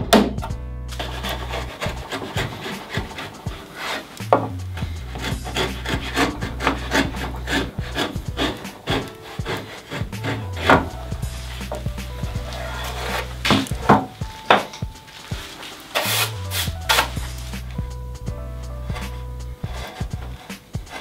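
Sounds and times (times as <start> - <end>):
background music with beat: 0.0 - 21.0
hand plane scraping wood: 0.9 - 18.0, 18.9 - 21.0.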